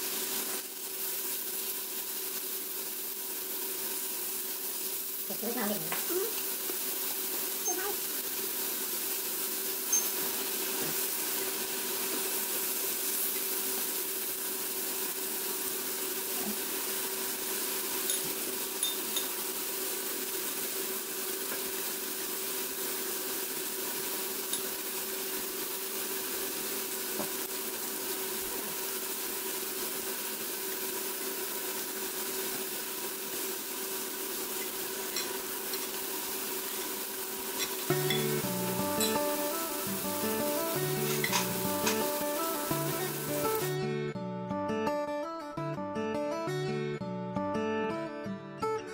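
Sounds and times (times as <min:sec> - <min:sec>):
meat and vegetables sizzling: 0:00.0 - 0:44.1.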